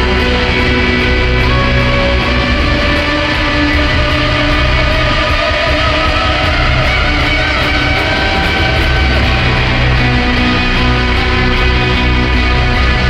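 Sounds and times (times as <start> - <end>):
constant wash of noise: 0.0 - 13.0
guitars playing a drone: 0.0 - 13.0.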